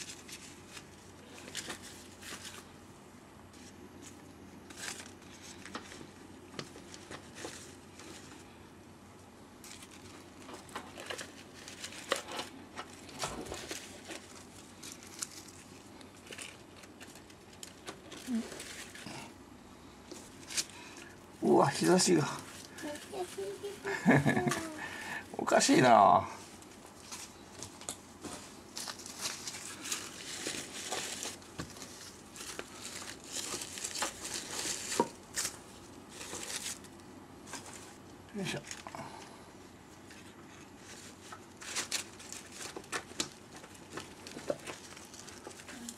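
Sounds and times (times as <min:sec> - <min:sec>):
artificial flowers rustling: 0:00.0 - 0:08.8, 0:09.5 - 0:45.9.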